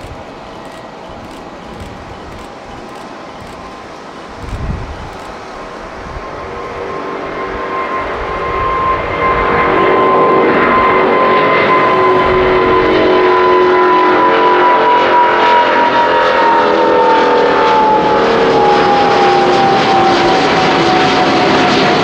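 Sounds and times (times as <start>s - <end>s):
high jet whine falling in pitch: 0.0s - 22.0s
jet engines roaring: 0.0s - 22.0s.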